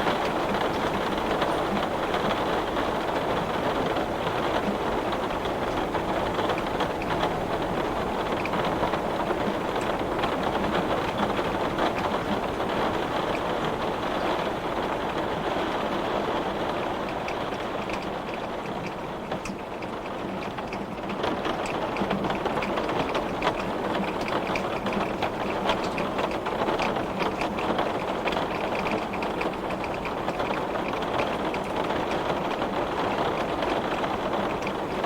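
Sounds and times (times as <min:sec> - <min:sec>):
heavy rain on window glass: 0:00.0 - 0:35.0.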